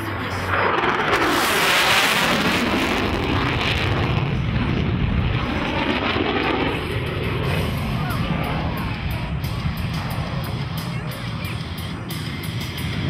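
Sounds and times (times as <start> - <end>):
jet fighter roaring past: 0.0 - 13.0.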